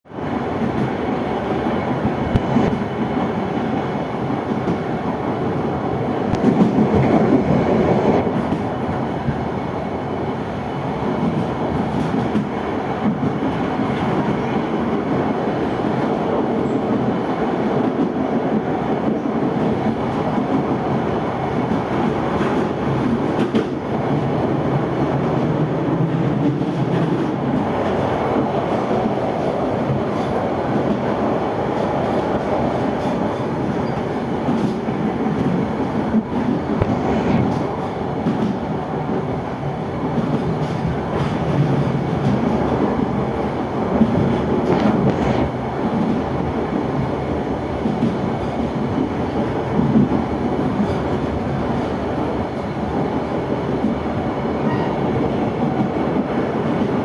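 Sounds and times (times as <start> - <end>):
train wheels rumbling on track: 0.1 - 57.0.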